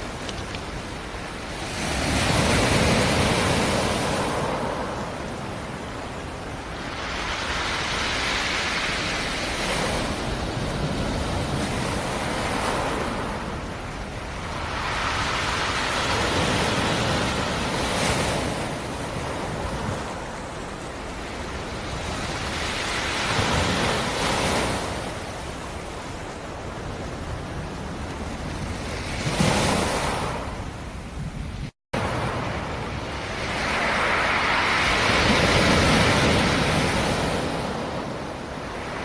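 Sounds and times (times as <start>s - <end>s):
waves breaking: 0.0s - 30.7s, 32.0s - 39.0s.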